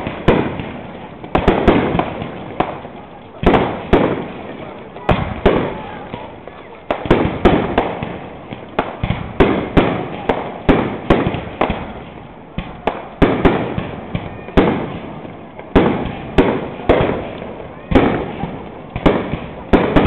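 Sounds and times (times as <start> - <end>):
fireworks bursting with echo: 0.0 - 20.0.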